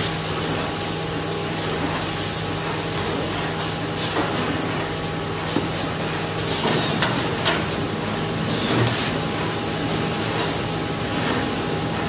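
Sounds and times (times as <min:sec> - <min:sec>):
packing machine humming: 0:00.0 - 0:12.0.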